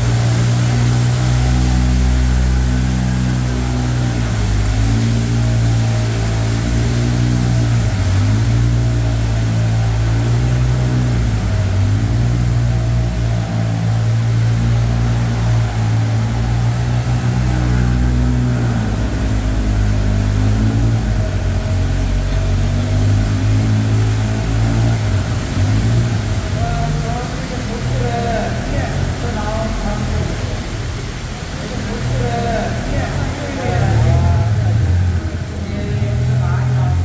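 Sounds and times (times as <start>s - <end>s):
boat motor humming: 0.0s - 37.0s.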